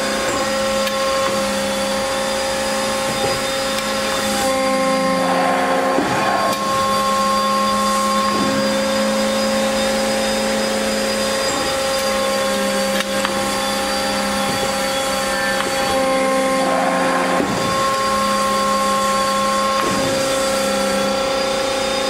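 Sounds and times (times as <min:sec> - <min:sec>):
hydraulic machine whining: 0:00.0 - 0:22.0.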